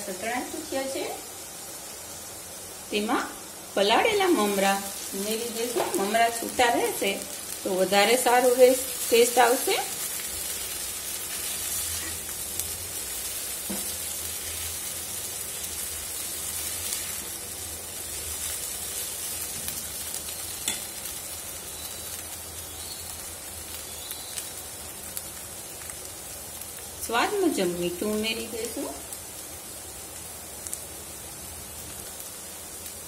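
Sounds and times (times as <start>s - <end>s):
food sizzling in pan: 0.0s - 33.0s.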